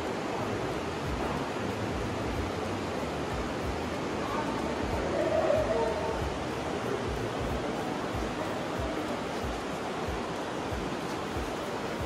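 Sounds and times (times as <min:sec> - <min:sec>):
river rushing through gorge: 0:00.0 - 0:12.0.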